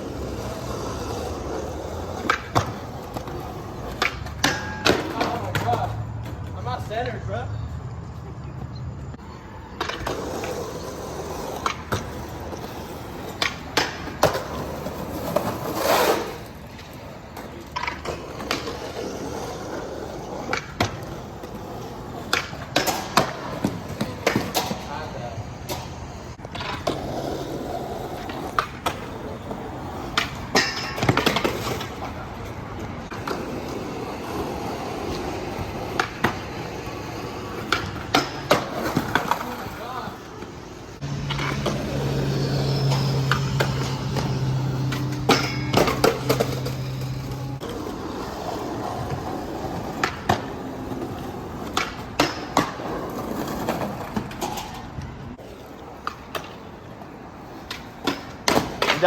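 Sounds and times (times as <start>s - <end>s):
skateboard clacking on ground: 0.0s - 59.0s
skateboard wheels rolling on wet pavement: 0.0s - 59.0s.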